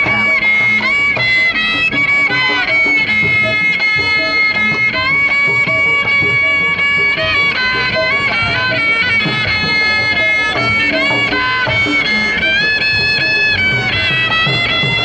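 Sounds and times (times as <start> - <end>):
drum beat: 0.0 - 15.0
fiddle-like melody: 0.0 - 15.0.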